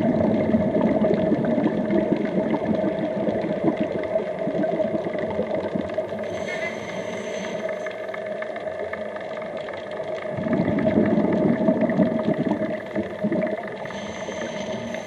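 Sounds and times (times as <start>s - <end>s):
rumbling bubbles: 0.0s - 15.0s
underwater steady hum: 0.0s - 15.0s.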